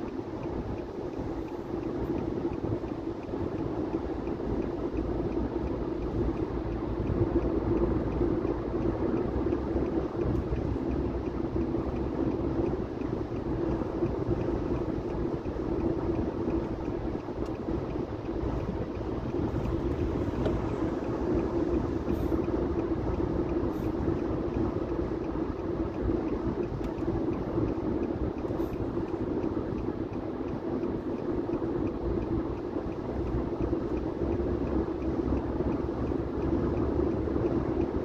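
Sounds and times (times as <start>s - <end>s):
car engine hum: 0.0s - 38.0s.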